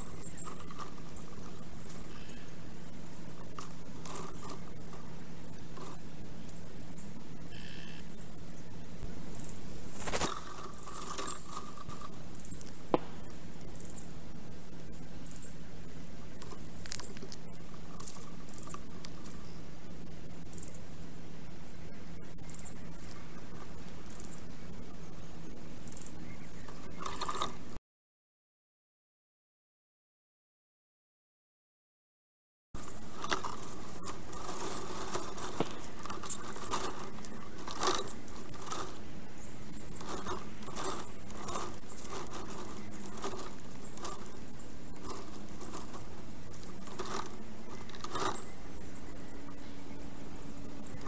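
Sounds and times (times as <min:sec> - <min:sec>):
steady low hum: 0:00.0 - 0:27.8, 0:32.8 - 0:51.0.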